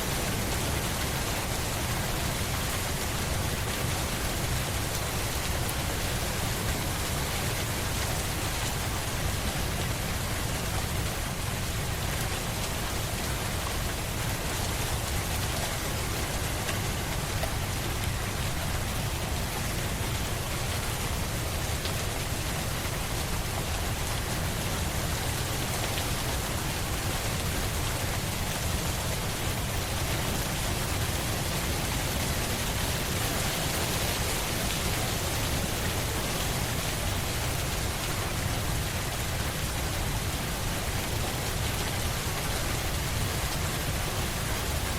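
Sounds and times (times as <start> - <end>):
rain falling on a surface: 0.0 - 44.9.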